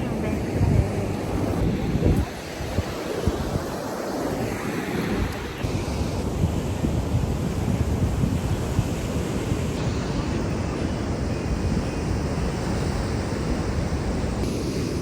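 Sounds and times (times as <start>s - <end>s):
sea surf washing onto beach: 0.0s - 15.0s
wind rumbling on microphone: 0.0s - 15.0s.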